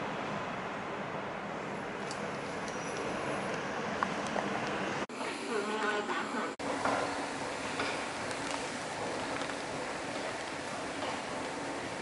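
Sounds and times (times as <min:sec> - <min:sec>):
city street traffic hum: 0:00.0 - 0:05.5, 0:06.2 - 0:12.0.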